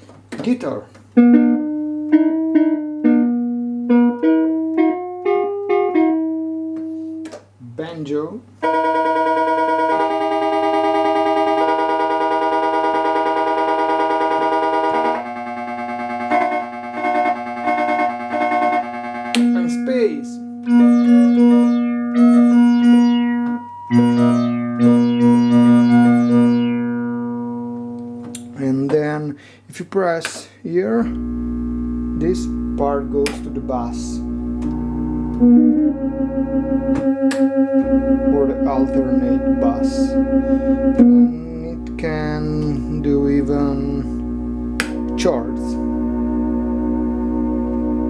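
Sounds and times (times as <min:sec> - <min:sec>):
electronic keyboard guitar melody: 0:01.1 - 0:08.0, 0:08.6 - 0:29.0, 0:30.8 - 0:48.0.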